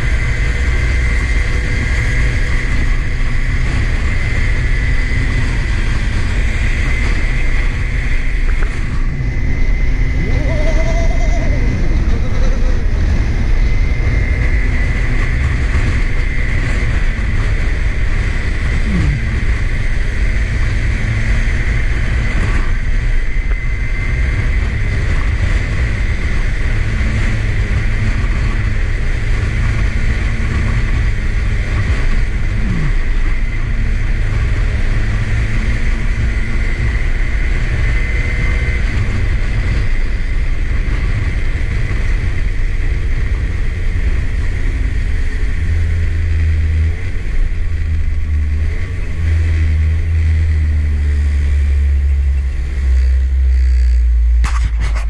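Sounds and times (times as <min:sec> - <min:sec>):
high whine: 0:00.0 - 0:55.0
kart engine running: 0:00.0 - 0:55.0
wind on microphone: 0:00.0 - 0:55.0.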